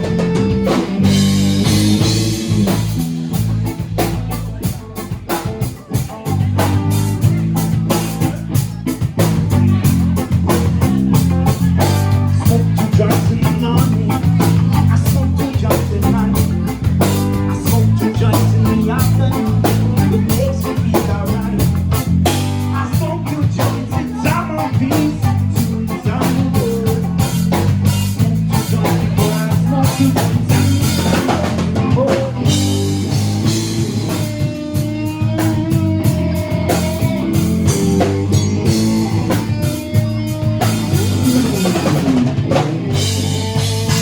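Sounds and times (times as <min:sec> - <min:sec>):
electric guitar long notes: 0:00.0 - 0:44.0
live rock band playing: 0:00.0 - 0:44.0.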